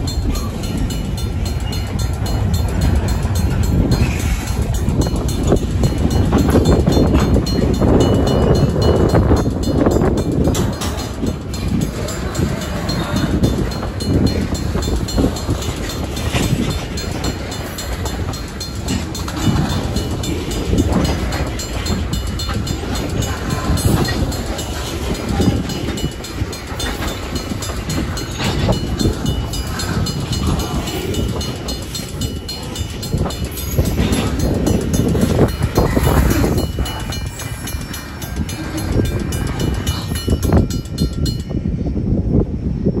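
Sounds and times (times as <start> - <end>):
train wheel clacks: 0.0 - 41.8
freight train wheels rumbling: 0.0 - 43.0.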